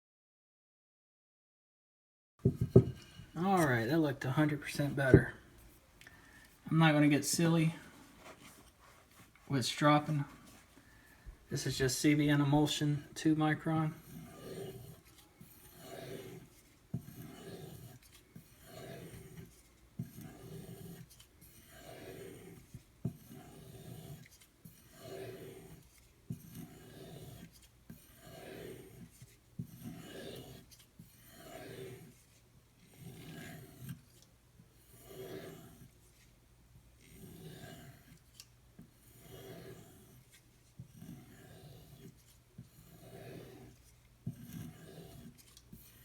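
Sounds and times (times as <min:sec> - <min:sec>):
knife stropping rasp: 0:02.6 - 0:05.2, 0:06.9 - 0:36.4, 0:37.0 - 0:46.0.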